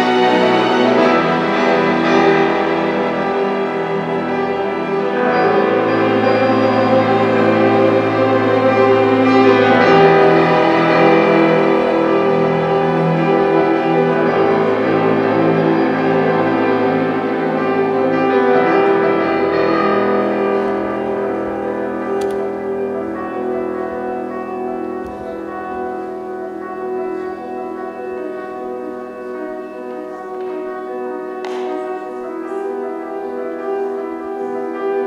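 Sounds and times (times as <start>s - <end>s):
piano with string orchestra: 0.0s - 35.0s.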